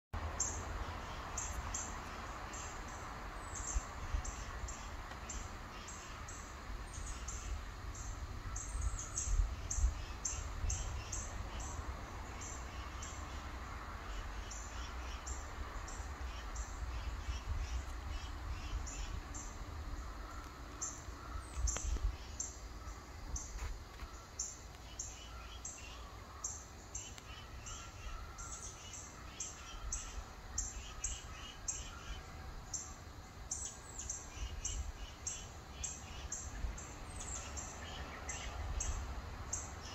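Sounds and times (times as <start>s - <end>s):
small birds chirping: 0.3s - 39.9s.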